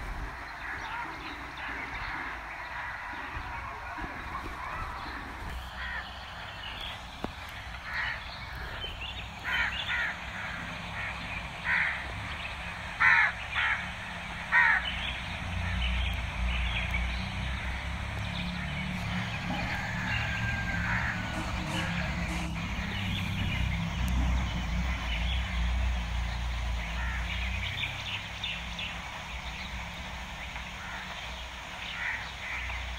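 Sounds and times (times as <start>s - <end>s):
crows cawing: 0.4s - 23.6s, 26.8s - 28.1s, 30.6s - 32.9s.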